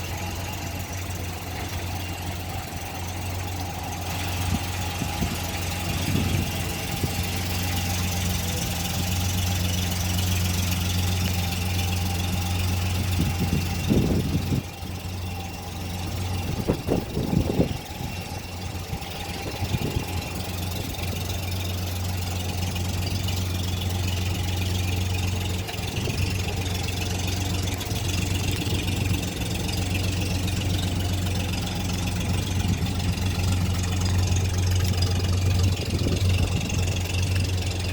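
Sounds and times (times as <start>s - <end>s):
vehicle engine idling: 0.0s - 37.9s.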